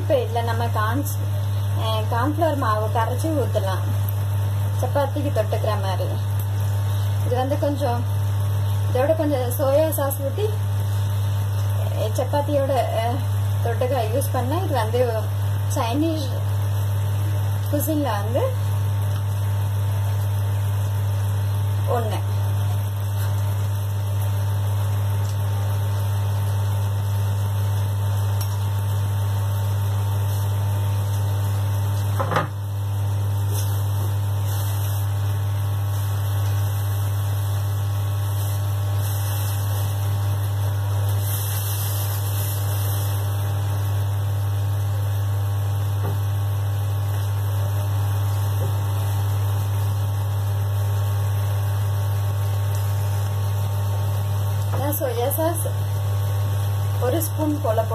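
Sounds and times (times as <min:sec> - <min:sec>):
low electrical hum: 0:00.0 - 0:57.9.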